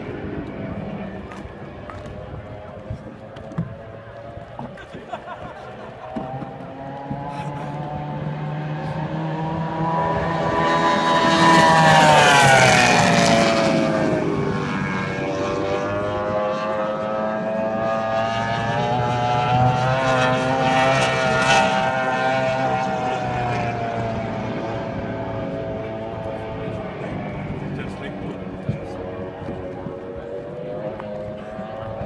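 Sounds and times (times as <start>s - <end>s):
powerboat engine racing by: 0.0s - 32.0s.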